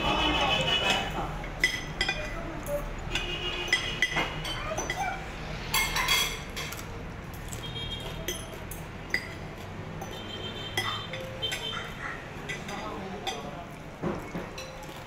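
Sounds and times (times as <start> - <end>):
cutlery clinking on a plate: 0.8 - 5.1, 5.7 - 15.0.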